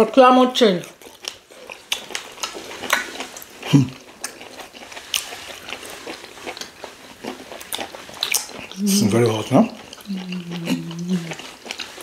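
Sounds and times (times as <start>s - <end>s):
chewing and lip-smacking: 0.8s - 12.0s.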